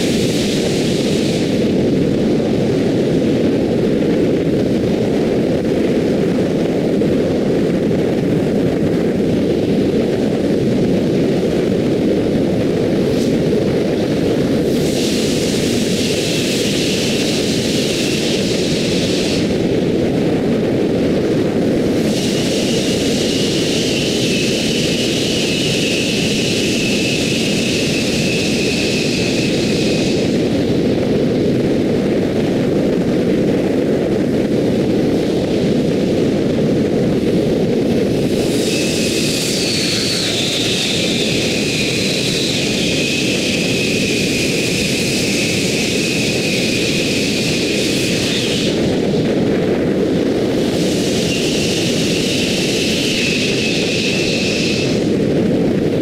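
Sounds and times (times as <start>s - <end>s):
tyre road noise: 0.0s - 56.0s
wind rush: 0.0s - 56.0s.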